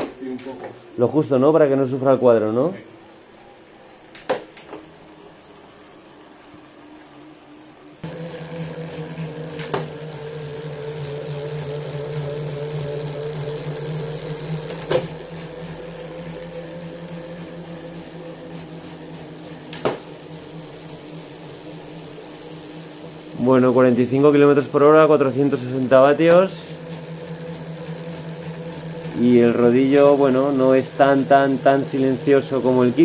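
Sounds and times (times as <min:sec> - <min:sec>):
bike trainer whirring hum: 0:00.0 - 0:33.0.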